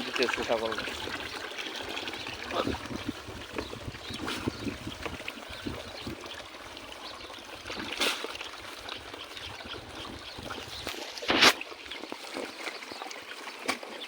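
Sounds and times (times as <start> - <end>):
water pouring into trough: 0.0 - 14.0.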